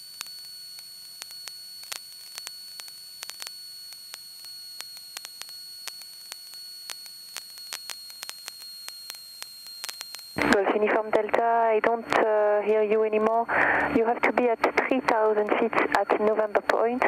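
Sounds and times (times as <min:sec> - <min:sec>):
crackling clicks: 0:00.0 - 0:17.0
radio hiss with high-pitched whine: 0:00.0 - 0:17.0.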